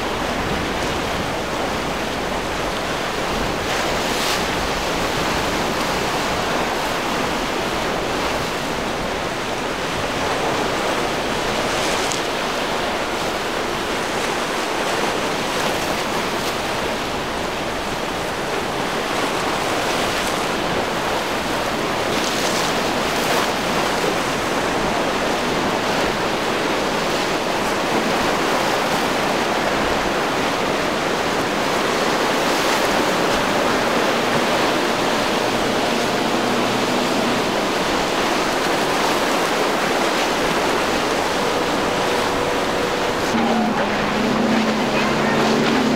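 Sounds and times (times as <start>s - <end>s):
surf breaking: 0.0s - 45.9s
wind: 0.0s - 45.9s.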